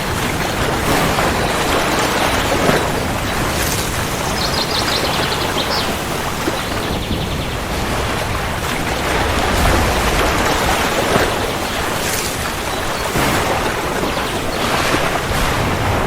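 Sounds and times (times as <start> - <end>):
low rumble of thunder: 0.0 - 14.2
heavy rain: 0.0 - 16.0.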